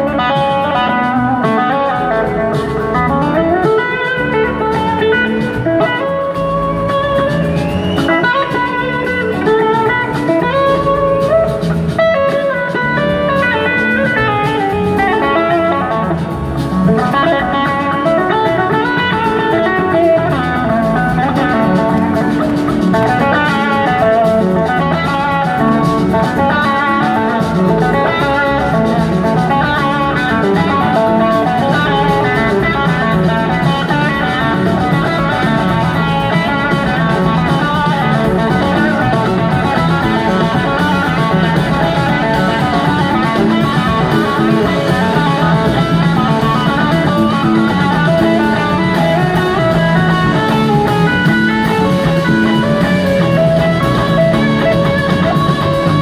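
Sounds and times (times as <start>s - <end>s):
bass guitar: 0.0s - 56.0s
drum kit: 0.0s - 56.0s
electric guitar lead lines: 0.0s - 56.0s.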